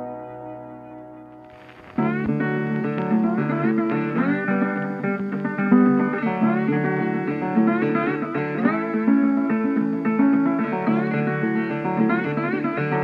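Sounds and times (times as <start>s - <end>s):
acoustic guitar with sliding notes: 0.0s - 13.0s.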